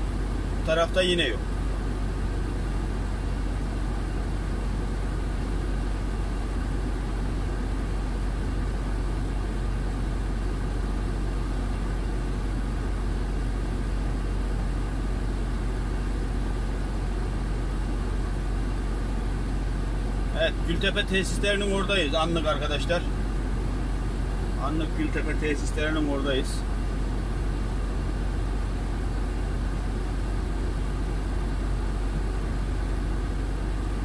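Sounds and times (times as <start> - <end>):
road noise: 0.0 - 34.0
truck engine drone: 0.0 - 34.0.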